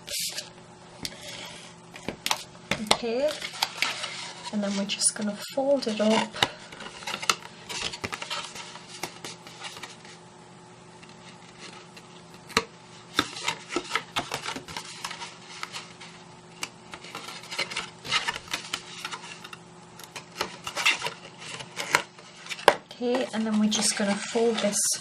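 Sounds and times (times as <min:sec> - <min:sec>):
cardstock rustling and crackling: 0:00.0 - 0:10.2, 0:10.9 - 0:25.0.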